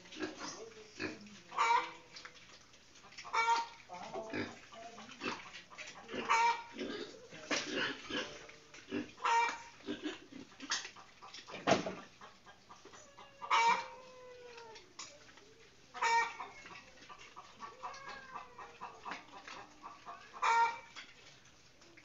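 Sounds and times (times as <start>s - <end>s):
chickens squawking: 0.0s - 22.0s.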